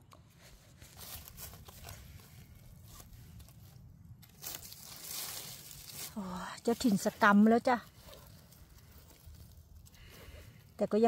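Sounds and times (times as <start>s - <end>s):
dry leaves rustling and crunching: 0.3s - 11.0s.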